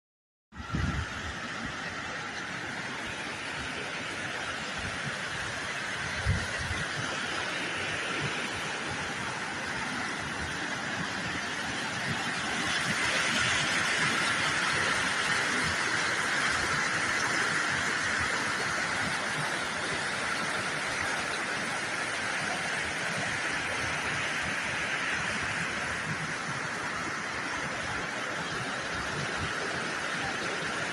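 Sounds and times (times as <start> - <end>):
rushing water: 0.5 - 30.9.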